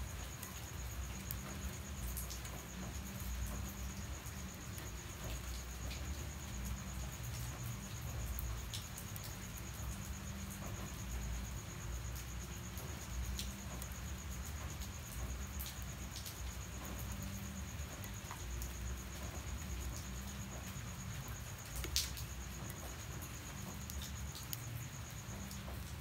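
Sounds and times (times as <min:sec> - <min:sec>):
cricket trilling: 0:00.0 - 0:26.0
light rain: 0:00.0 - 0:26.0
raindrops tapping: 0:00.0 - 0:26.0.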